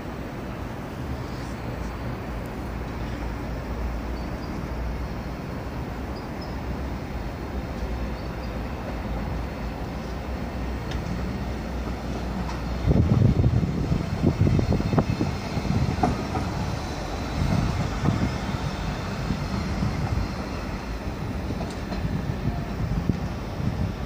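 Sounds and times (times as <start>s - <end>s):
train rumbling through station: 0.0s - 24.0s.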